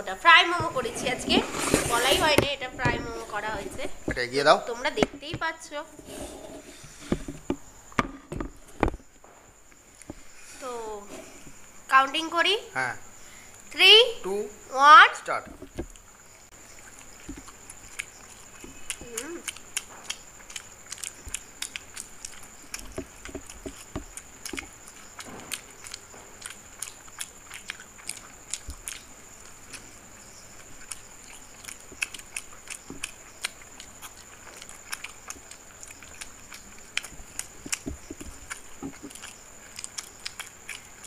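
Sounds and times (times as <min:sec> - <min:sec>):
people chewing food: 0:00.0 - 0:11.9, 0:15.4 - 0:41.0.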